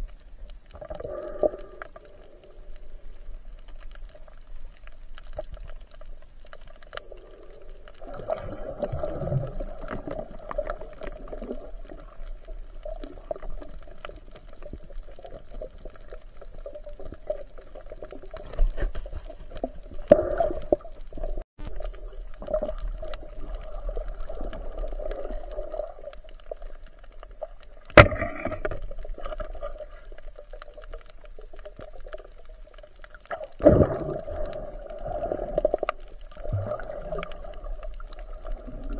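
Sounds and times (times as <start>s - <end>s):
underwater hum of moving water: 0.0s - 38.9s.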